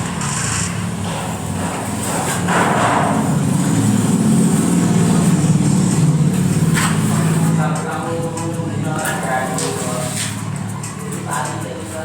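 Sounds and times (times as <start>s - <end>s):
engine droning hum: 0.0s - 12.0s.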